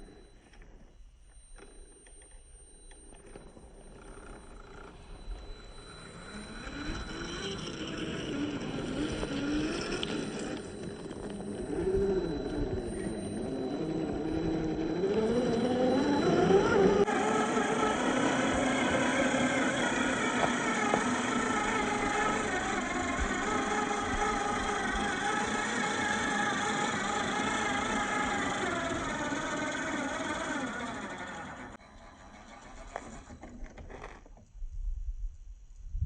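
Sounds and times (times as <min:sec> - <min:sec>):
rc car motor and gears whining: 0:00.0 - 0:34.3.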